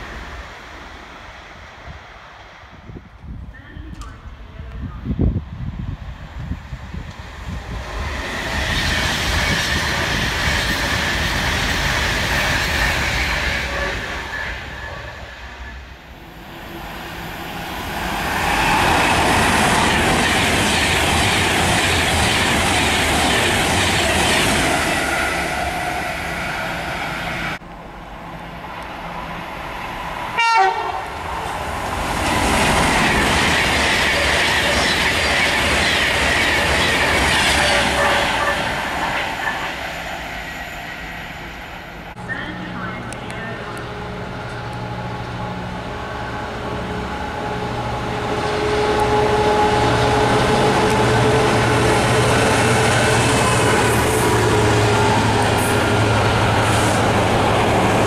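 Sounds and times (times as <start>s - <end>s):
trains passing at speed: 0.0s - 58.0s.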